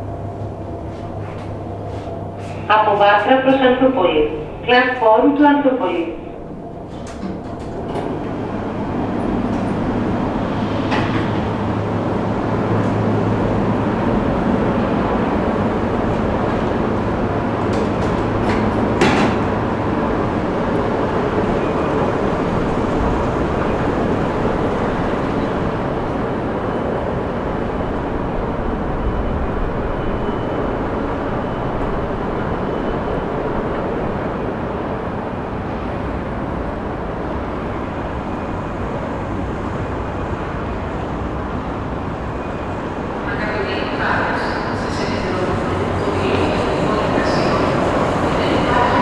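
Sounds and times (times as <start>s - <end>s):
metro station rumble: 0.0s - 49.0s.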